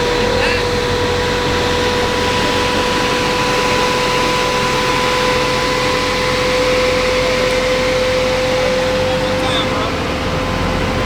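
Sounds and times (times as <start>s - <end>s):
vehicle engine running with whine: 0.0s - 11.0s.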